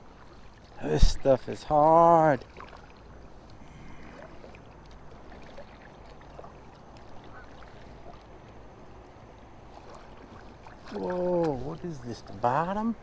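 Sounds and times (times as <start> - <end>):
kayak rustling through lily pads: 0.0 - 13.0
water drips: 1.4 - 12.5.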